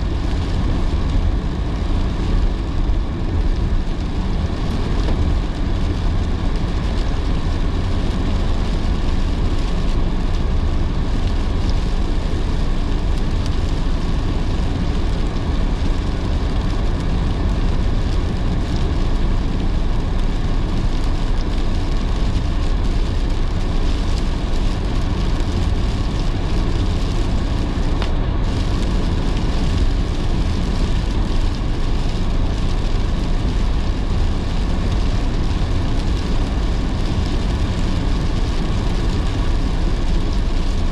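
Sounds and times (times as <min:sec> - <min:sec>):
car road rumble: 0:00.0 - 0:40.9
rain and wet tyres hiss: 0:00.0 - 0:40.9.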